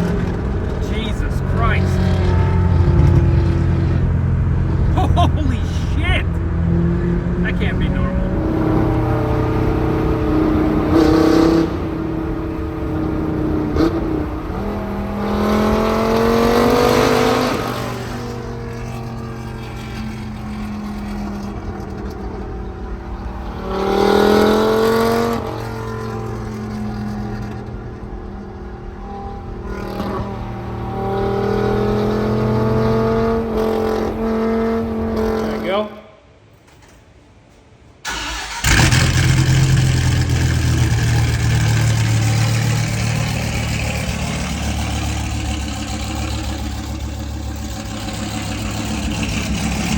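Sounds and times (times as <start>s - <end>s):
car engine idling and revving: 0.0s - 35.7s, 38.0s - 49.9s.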